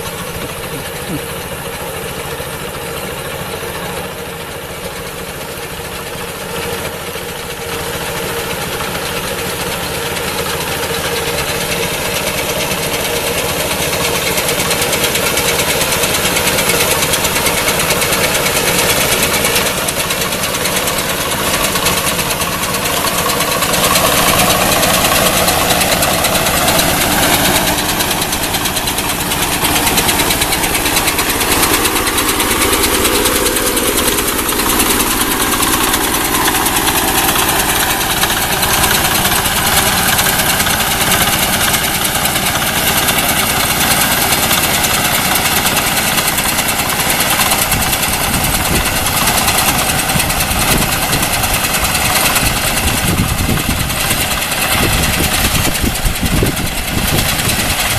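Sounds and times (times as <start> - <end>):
reaper engine running: 0.0 - 57.9.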